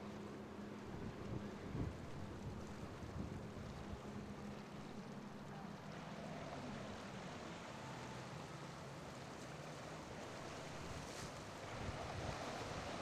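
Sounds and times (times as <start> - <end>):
distant boat engine drone: 0.0 - 13.0
wind: 0.0 - 13.0.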